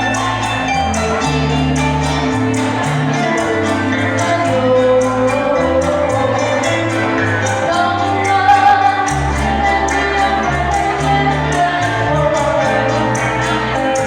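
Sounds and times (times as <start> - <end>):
band music: 0.0 - 14.0
bass line: 0.0 - 14.0
melody line: 0.0 - 14.0.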